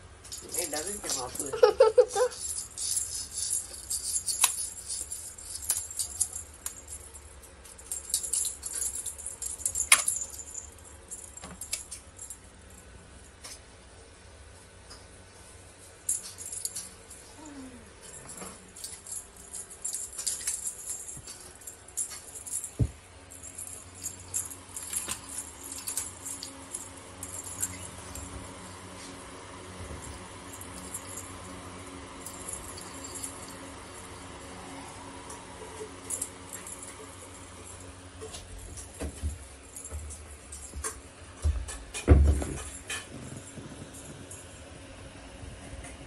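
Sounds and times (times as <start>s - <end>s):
cat toy jingling and rattling: 0.1s - 12.9s, 15.8s - 34.7s, 35.6s - 44.6s.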